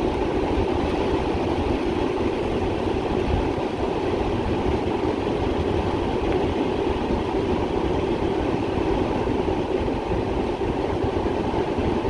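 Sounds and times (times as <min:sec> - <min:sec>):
car running rumble: 0:00.0 - 0:12.0.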